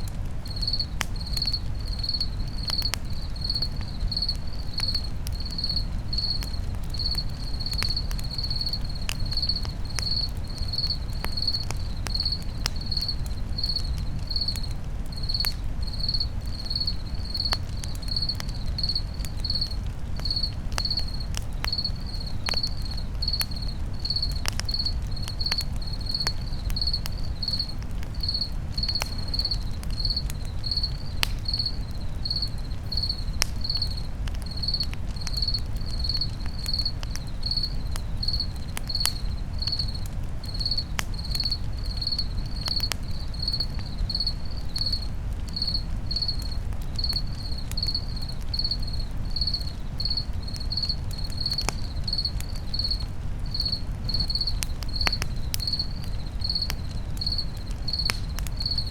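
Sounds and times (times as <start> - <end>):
campfire crackling: 0.0 - 58.9
cricket chirping: 0.0 - 58.9.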